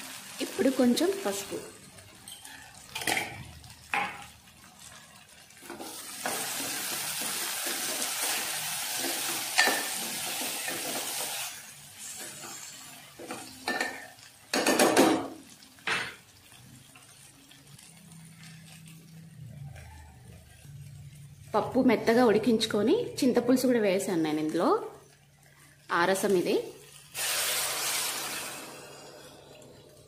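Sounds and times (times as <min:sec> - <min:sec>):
vegetables sizzling: 0:00.0 - 0:30.0.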